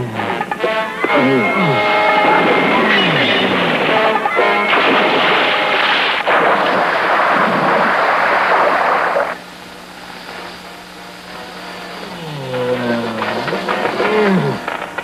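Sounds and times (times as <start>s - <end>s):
low steady hum: 0.0s - 15.0s
loud electrical crackling blast: 1.8s - 15.0s.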